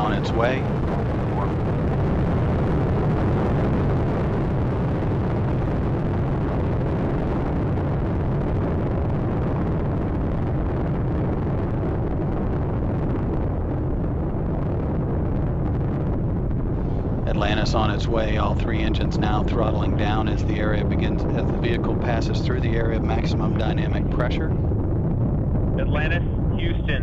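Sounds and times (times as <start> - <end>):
rocket engines rumbling: 0.0 - 27.0.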